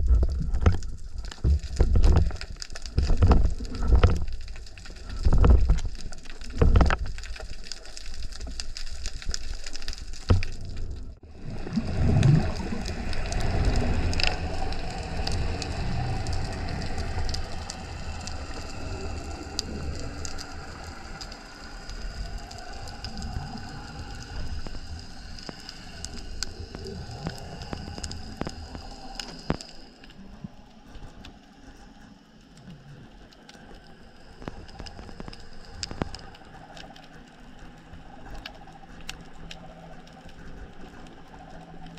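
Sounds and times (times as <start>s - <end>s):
underwater hiss with crackling clicks: 0.0s - 41.9s
water surging against camera: 0.0s - 41.9s.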